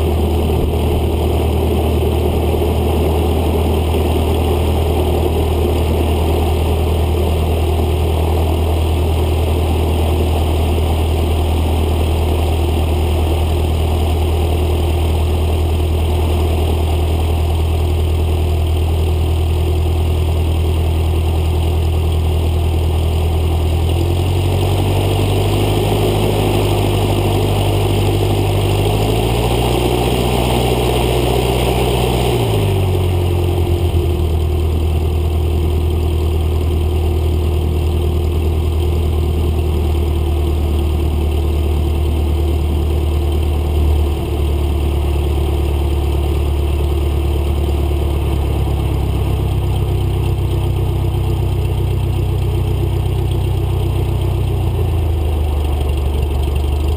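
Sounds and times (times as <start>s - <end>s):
light aircraft engine and propeller: 0.0s - 56.9s.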